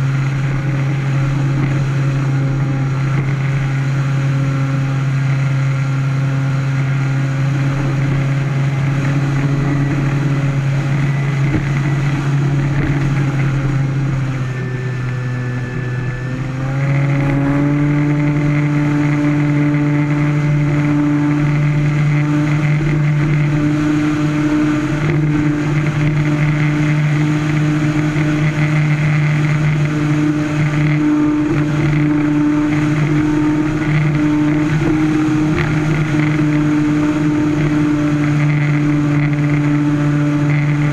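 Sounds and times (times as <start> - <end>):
electric motor and propeller: 0.0 - 40.9.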